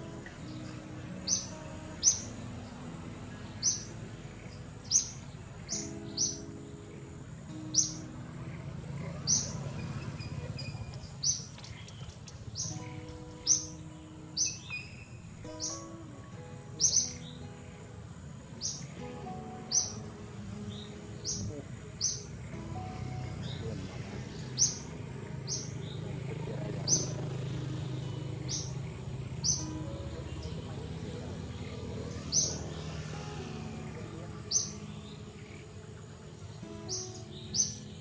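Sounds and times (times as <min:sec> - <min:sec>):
bird chirping: 0:00.0 - 0:38.0
soft background music: 0:00.0 - 0:38.0.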